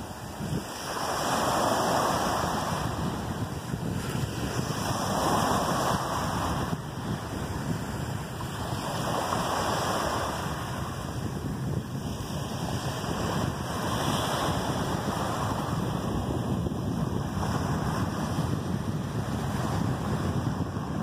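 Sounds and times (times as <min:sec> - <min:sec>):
small waves washing onto beach: 0:00.0 - 0:21.0
wind rumbling on microphone: 0:00.0 - 0:21.0.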